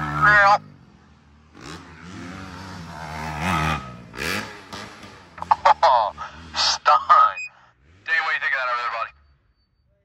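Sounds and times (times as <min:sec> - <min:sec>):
dirt bike engines revving: 0:00.0 - 0:09.8.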